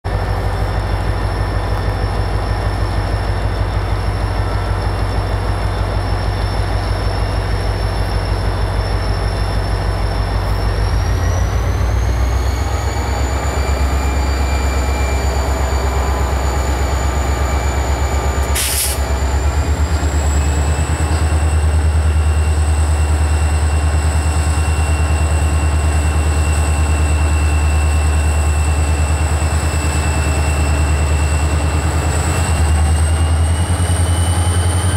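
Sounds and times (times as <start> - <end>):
diesel locomotive throttling up: 0.1 - 34.9
high whine rising in pitch: 3.9 - 34.9.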